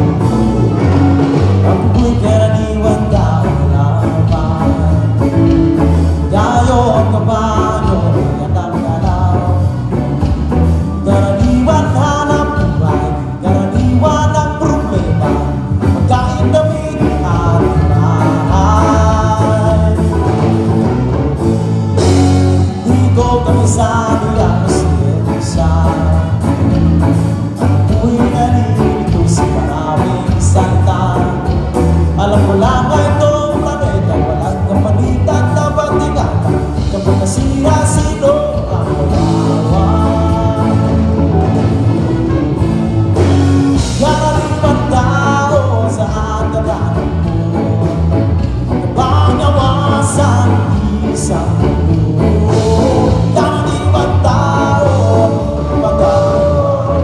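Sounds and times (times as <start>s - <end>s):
live band playing: 0.0s - 57.0s
person singing: 0.0s - 57.0s.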